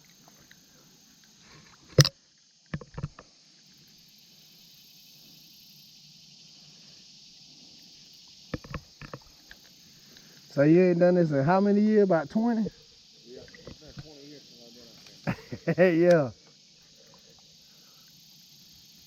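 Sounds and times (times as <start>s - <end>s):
high insect chorus: 0.0s - 19.0s.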